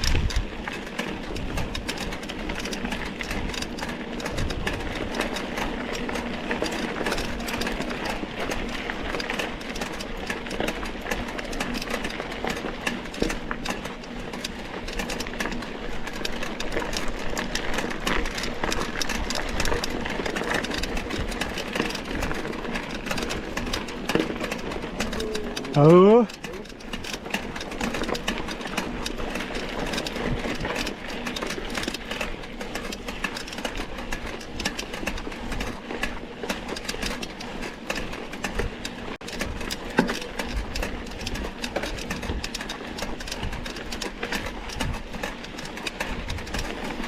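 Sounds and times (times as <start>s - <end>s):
mountain bike rattling on dirt trail: 0.0s - 47.0s.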